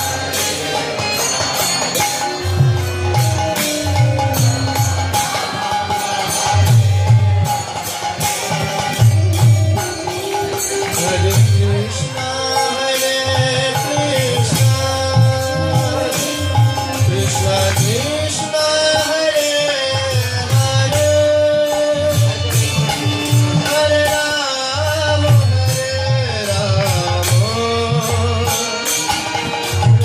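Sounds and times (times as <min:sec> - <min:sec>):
hand drum rhythm: 0:00.0 - 0:30.0.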